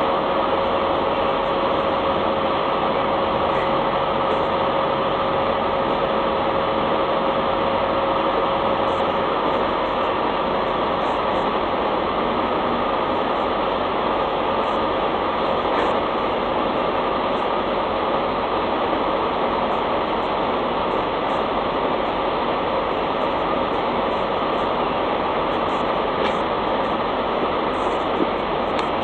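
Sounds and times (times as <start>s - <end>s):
machinery running: 0.0s - 29.0s.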